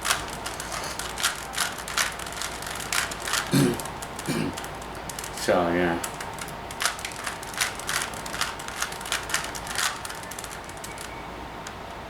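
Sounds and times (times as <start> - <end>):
plastic puzzle cube twisting clicks: 0.0 - 11.8.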